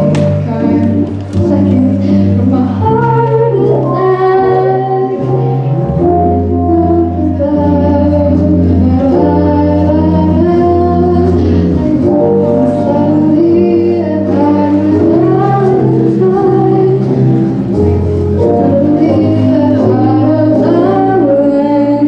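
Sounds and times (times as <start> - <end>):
instrumental accompaniment: 0.0 - 22.0
woman singing: 0.0 - 22.0.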